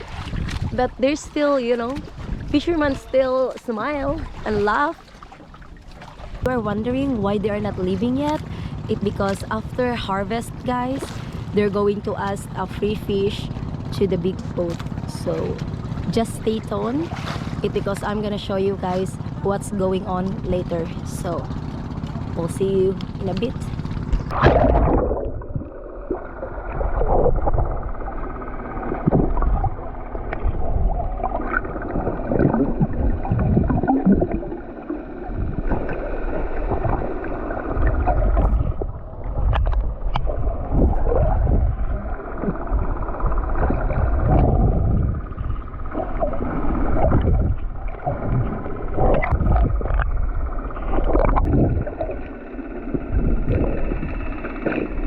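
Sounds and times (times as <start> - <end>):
low rumble: 0.0 - 4.9, 5.5 - 55.0
water sloshing against boat hull: 0.0 - 55.0.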